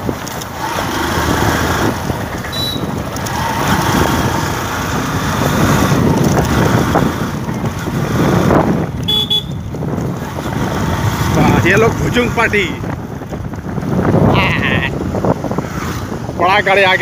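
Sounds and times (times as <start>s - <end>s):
motorcycle engine running: 0.0s - 17.0s
road noise on rough pavement: 0.0s - 17.0s.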